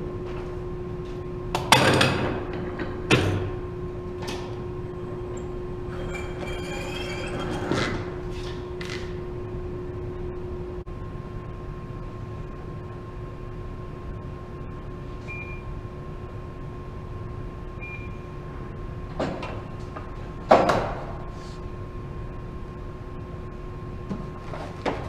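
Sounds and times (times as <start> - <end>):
shop hum: 0.0 - 25.0.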